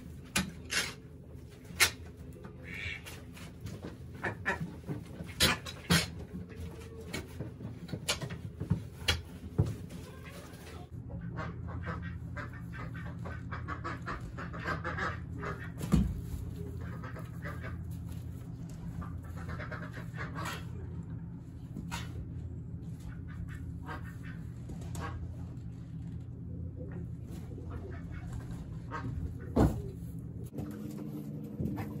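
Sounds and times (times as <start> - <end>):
steady low hum: 0.0 - 32.0
chickens clucking: 0.1 - 9.3, 10.0 - 30.6.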